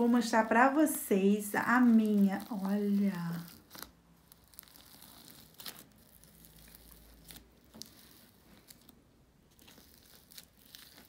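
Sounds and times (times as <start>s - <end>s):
slime crackling and popping: 1.5s - 11.0s.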